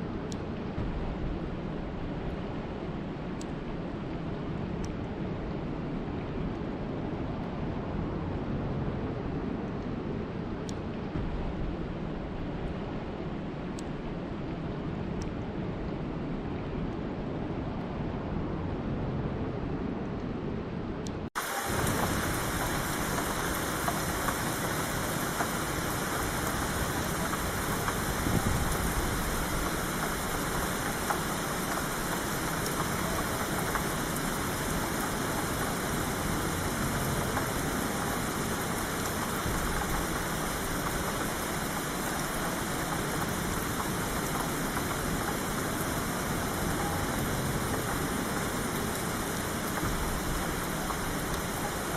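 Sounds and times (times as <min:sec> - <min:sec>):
heavy rain downpour: 0:00.0 - 0:19.9, 0:21.2 - 0:51.9
low rumbling rain: 0:00.0 - 0:51.9.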